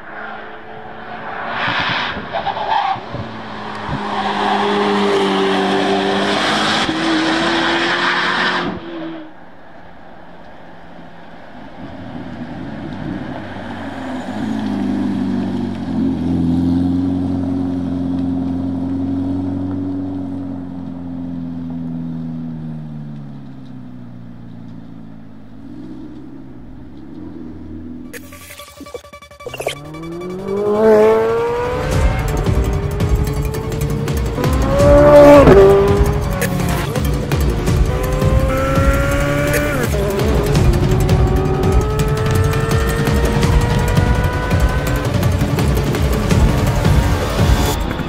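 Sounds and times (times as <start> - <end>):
car driving by: 0.0 - 48.0
car engine at speed: 0.0 - 48.0.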